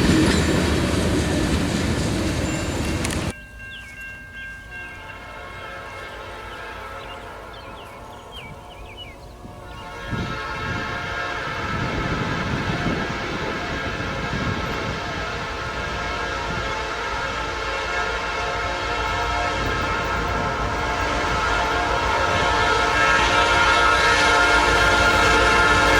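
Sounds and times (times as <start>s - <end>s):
train air horn: 0.0s - 3.3s, 5.0s - 25.9s
locomotive rumble: 0.0s - 3.4s, 7.4s - 25.9s.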